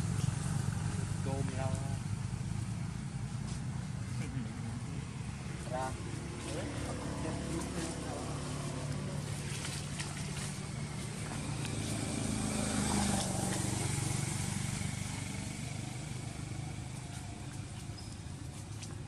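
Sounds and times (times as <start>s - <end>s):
passing vehicle engine hum: 0.0s - 19.0s.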